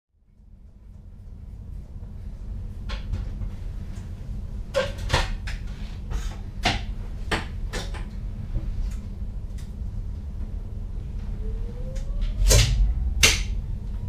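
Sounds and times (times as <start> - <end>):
low cab hum: 0.6 - 14.0.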